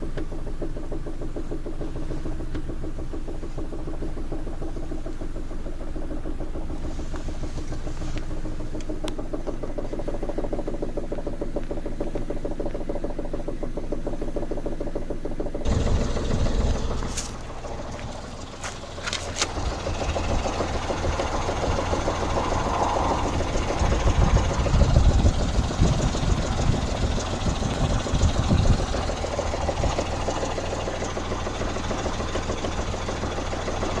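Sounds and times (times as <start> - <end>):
car engine idling with knocking: 0.0 - 34.0.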